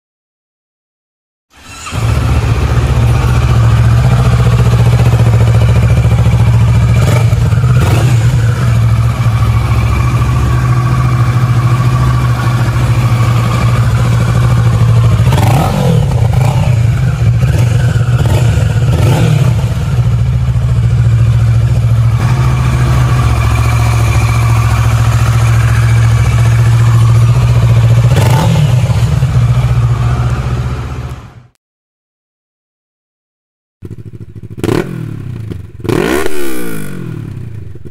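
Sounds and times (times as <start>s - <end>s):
motorcycle engine running: 1.7s - 31.5s, 33.8s - 37.9s.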